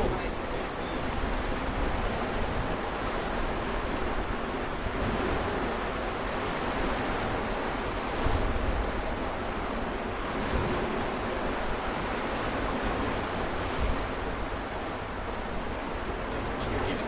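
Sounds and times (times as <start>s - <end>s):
sea waves washing ashore: 0.0s - 17.0s
wind buffeting microphone: 0.0s - 17.0s.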